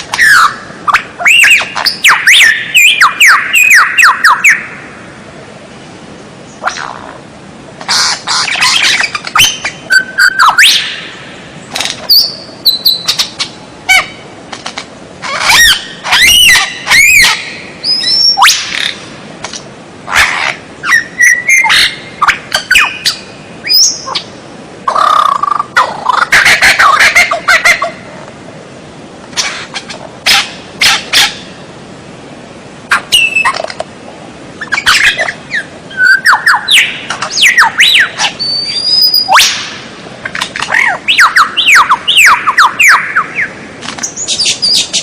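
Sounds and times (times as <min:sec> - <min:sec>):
songbird singing: 0:00.0 - 0:14.4, 0:15.0 - 0:28.2, 0:29.3 - 0:31.9, 0:32.9 - 0:45.0.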